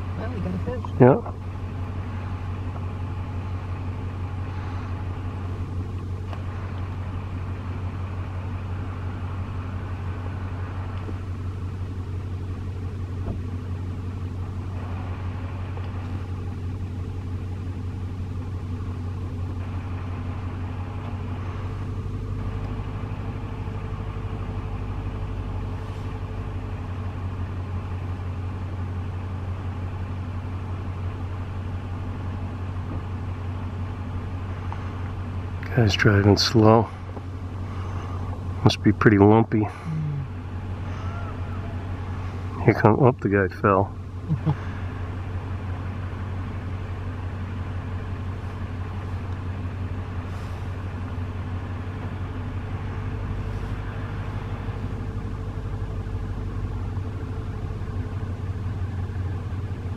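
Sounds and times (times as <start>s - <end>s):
engine idling hum: 0.0s - 59.9s.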